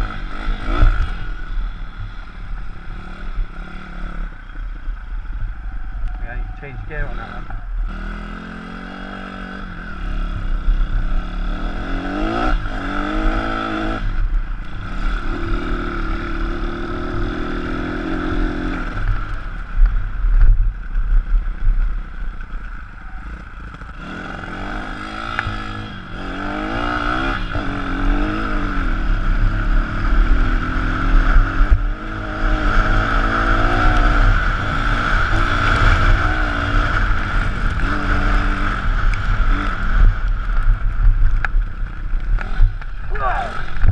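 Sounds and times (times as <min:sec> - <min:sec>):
motorbike engine revving: 0:00.0 - 0:19.4, 0:23.0 - 0:43.9
wind rumble on microphone: 0:00.0 - 0:43.9.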